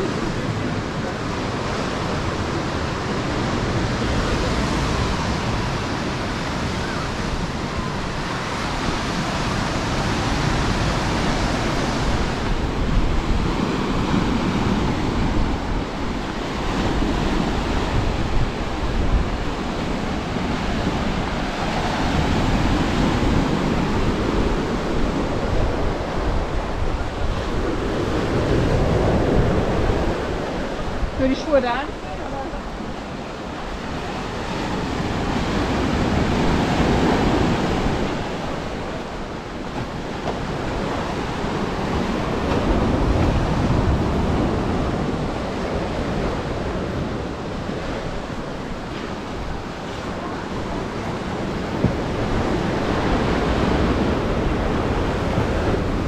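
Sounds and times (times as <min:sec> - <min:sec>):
ocean surf breaking on shore: 0:00.0 - 0:56.0
wind rumbling on microphone: 0:00.0 - 0:56.0.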